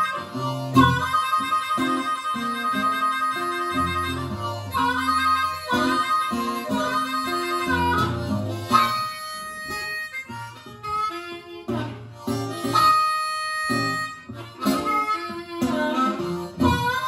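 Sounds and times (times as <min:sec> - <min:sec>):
acoustic guitar blues accompaniment: 0:00.0 - 0:17.0
blues harmonica: 0:00.0 - 0:17.0.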